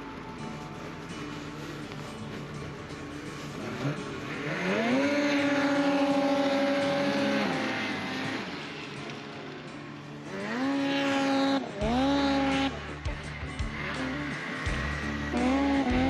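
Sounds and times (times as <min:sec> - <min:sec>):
snowmobile engine revving: 0:00.0 - 0:16.0.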